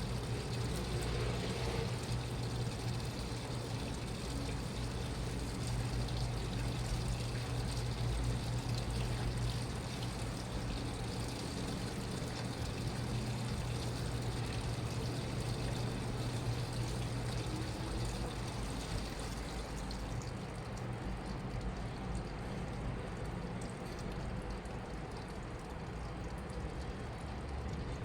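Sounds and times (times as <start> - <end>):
washing machine hum: 0.0 - 28.0
water sloshing in washing machine: 0.0 - 28.0.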